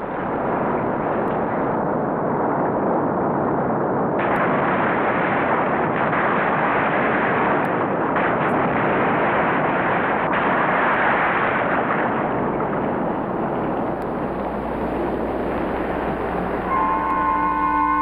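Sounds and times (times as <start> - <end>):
logs tumbling rumble: 0.0 - 16.7.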